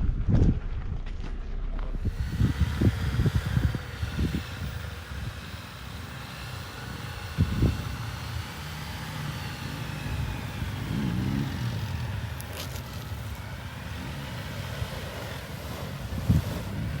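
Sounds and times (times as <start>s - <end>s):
faint whine: 0.0s - 17.0s
off-road vehicle rumbling: 0.0s - 17.0s.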